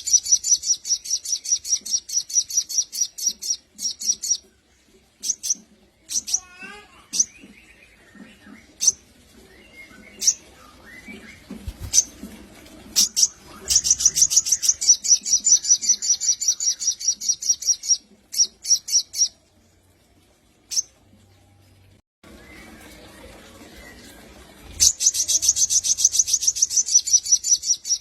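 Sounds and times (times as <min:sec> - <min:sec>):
bird chirping and trilling: 0:00.0 - 0:04.5, 0:05.2 - 0:12.2, 0:12.8 - 0:19.5, 0:20.7 - 0:21.0, 0:22.3 - 0:28.0.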